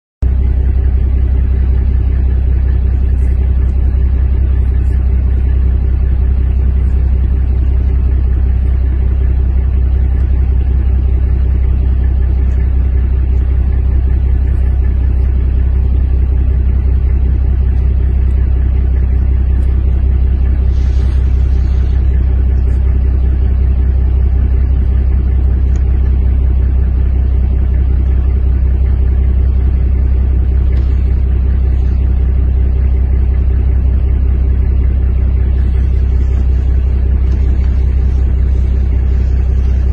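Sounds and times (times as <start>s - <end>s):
engine idling: 0.2s - 39.9s
faint steady hum: 0.2s - 39.9s.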